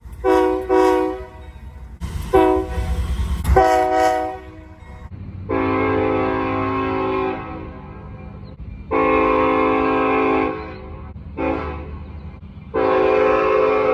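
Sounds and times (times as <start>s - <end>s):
moving train rumble: 0.0s - 13.9s
locomotive air horn blasts: 0.2s - 1.4s, 2.1s - 8.2s, 8.9s - 12.0s, 12.7s - 13.9s.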